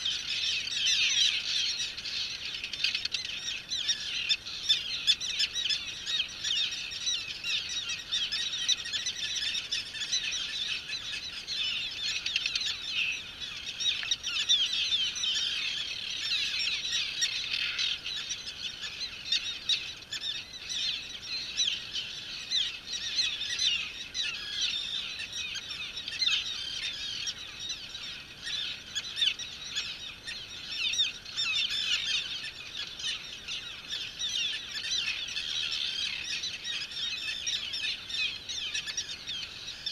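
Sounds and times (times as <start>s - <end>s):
terns calling in chorus: 0.0s - 39.9s.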